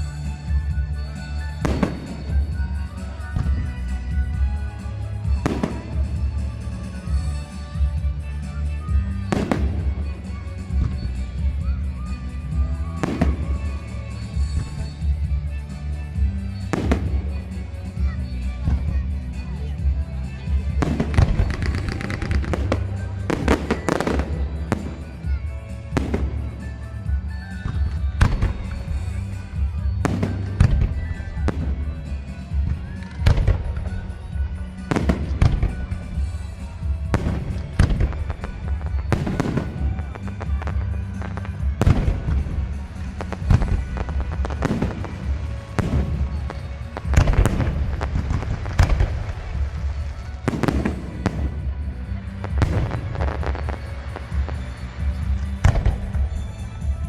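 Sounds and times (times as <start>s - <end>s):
fireworks bursting: 0.0s - 57.0s
music playing: 0.0s - 57.0s.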